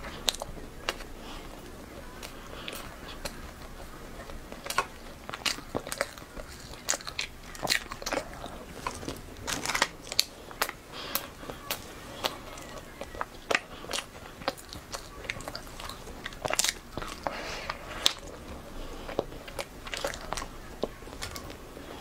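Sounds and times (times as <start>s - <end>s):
wafer snack crunching: 0.0s - 22.0s.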